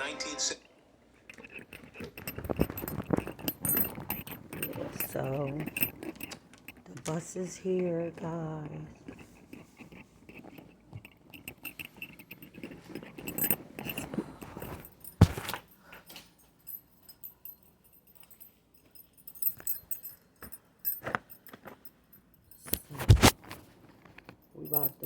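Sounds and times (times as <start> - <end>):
rustling and handling noises: 1.1 - 25.0
keys jangling: 1.3 - 7.4, 8.6 - 25.0.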